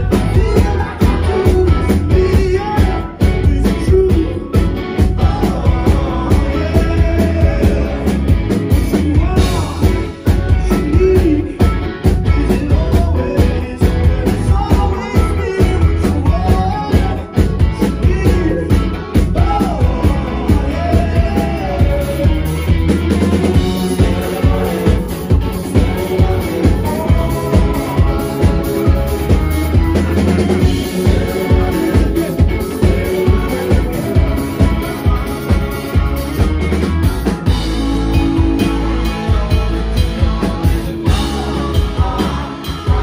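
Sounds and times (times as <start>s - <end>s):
man singing: 0.0s - 36.5s, 37.4s - 43.0s
live rock band playing: 0.0s - 43.0s.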